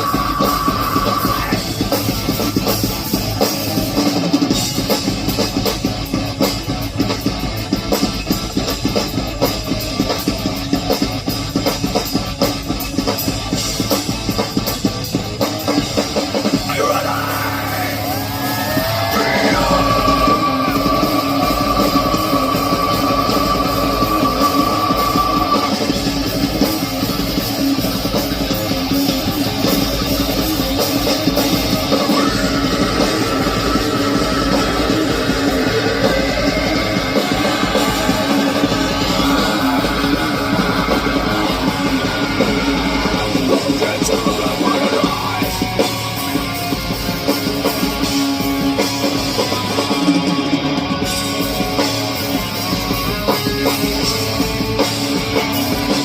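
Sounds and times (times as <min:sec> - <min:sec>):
rock band with guitar: 0:00.0 - 0:56.0.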